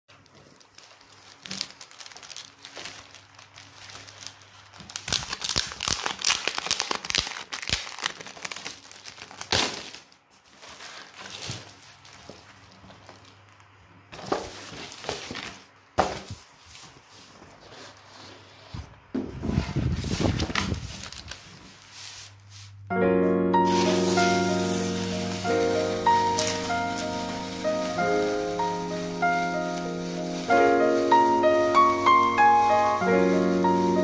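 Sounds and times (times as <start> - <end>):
plastic wrap crinkling: 0.1 - 18.2, 19.7 - 22.8, 23.6 - 34.0.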